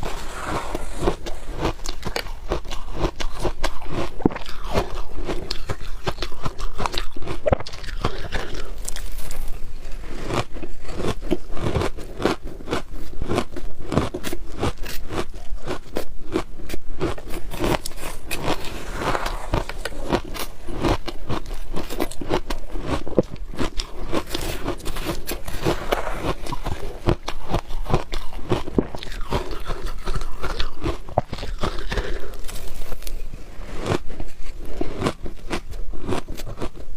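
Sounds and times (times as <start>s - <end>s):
person chewing shaved ice: 0.0s - 36.9s.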